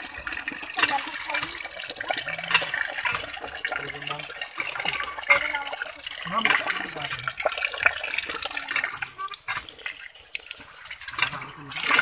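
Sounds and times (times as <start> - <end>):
tap water pouring into bowl: 0.0 - 12.0.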